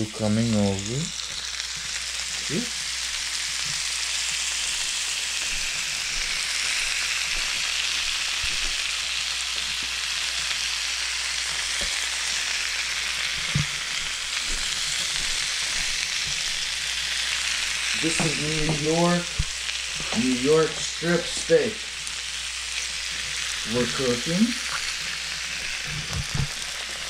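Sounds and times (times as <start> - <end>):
steaks sizzling on grill: 0.0 - 27.0.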